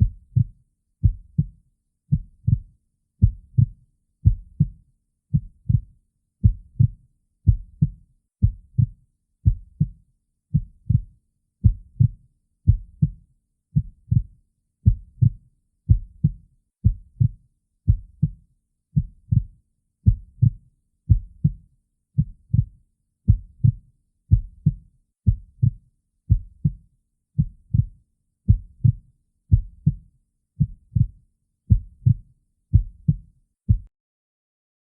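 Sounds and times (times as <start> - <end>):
heartbeat through a stethoscope: 0.0 - 13.2, 13.8 - 18.4, 19.0 - 21.6, 22.2 - 26.8, 27.4 - 30.0, 30.6 - 33.9.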